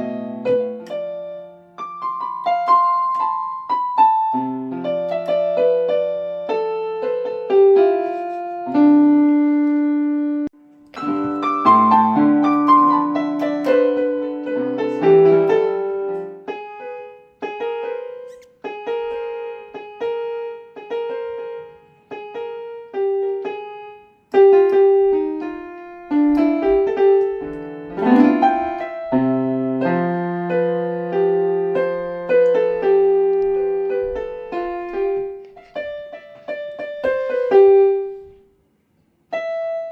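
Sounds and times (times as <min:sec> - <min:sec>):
piano melody: 0:00.0 - 0:38.4, 0:39.3 - 0:39.9.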